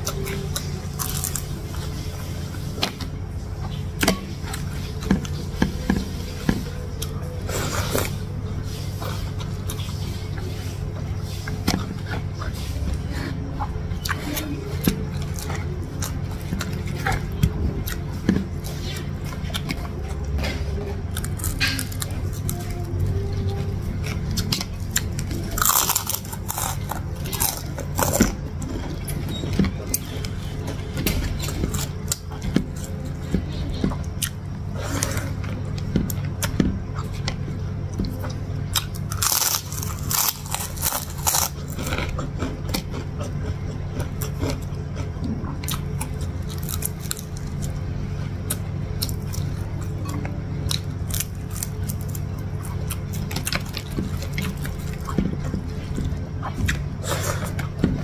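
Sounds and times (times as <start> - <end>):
crunching and chewing food: 0.0 - 58.0.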